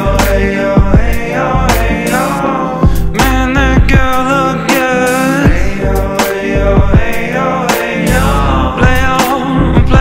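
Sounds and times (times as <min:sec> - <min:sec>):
melody over a beat: 0:00.0 - 0:10.0.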